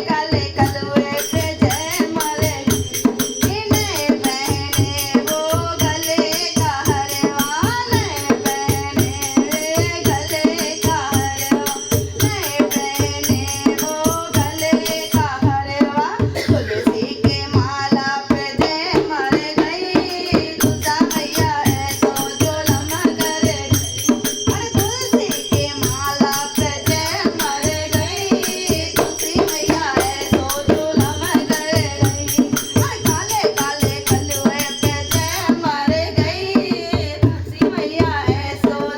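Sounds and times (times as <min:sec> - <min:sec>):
hand drum beat: 0:00.0 - 0:38.9
jingling percussion: 0:00.0 - 0:38.9.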